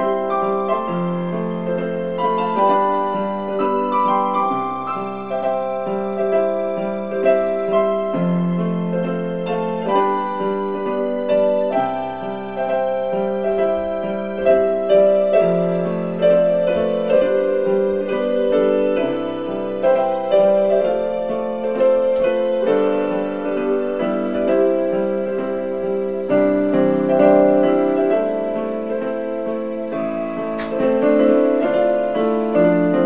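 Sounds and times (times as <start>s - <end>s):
slow piano melody: 0.0s - 33.0s.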